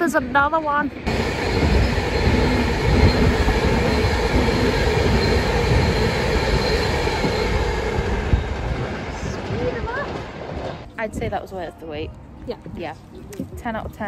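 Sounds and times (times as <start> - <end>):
train wheels rumbling on rails: 0.0 - 11.6.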